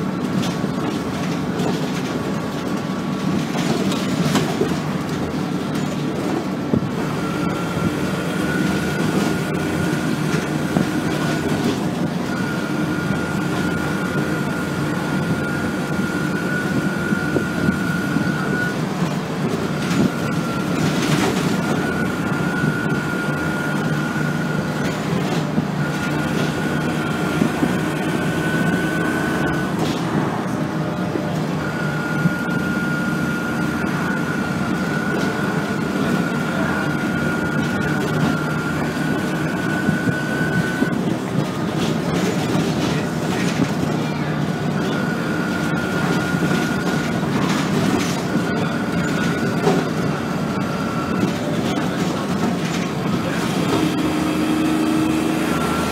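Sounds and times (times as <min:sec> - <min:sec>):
knocks and rattles from bus body: 0:00.0 - 0:31.6, 0:33.2 - 0:55.7
bus engine running: 0:00.0 - 0:55.9
high engine whine: 0:00.0 - 0:55.9.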